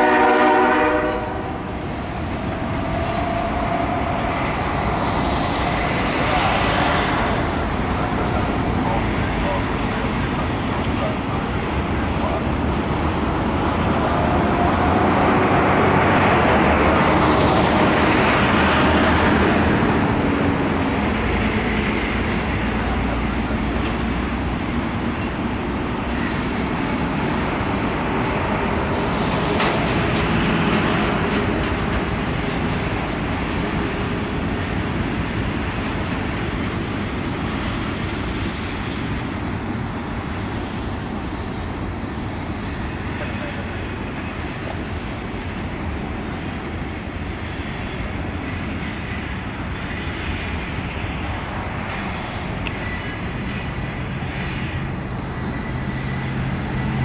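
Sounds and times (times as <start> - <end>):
freight cars rumbling on rail: 0.0 - 57.0.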